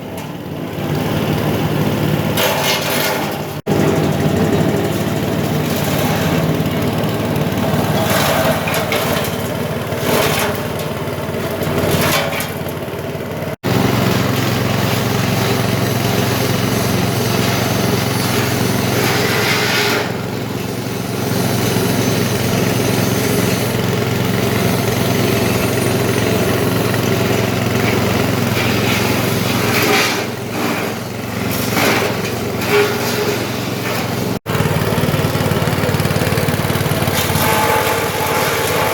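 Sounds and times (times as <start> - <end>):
chopper machine engine running: 0.0 - 38.9.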